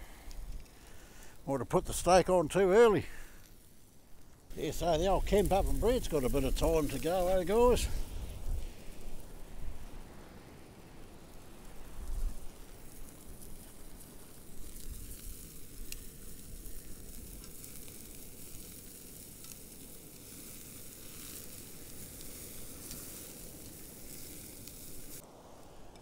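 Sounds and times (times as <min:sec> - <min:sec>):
steaks sizzling on a grill: 0:00.0 - 0:25.2.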